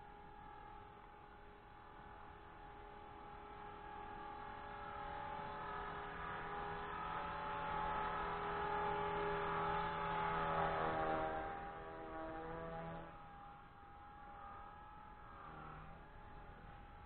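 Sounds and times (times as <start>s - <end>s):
rc helicopter high whine: 0.0s - 17.0s.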